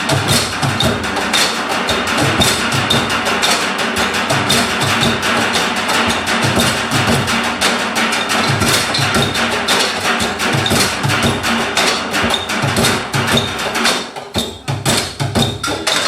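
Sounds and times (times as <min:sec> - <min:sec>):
sustained pitched backing: 0:00.0 - 0:16.0
wooden and drum strikes: 0:00.0 - 0:16.0.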